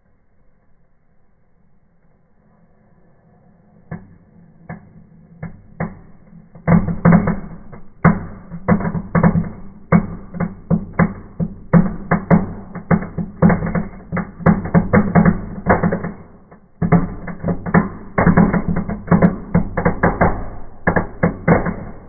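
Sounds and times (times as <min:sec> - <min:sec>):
firework crackler cracking and popping: 0:03.8 - 0:22.0.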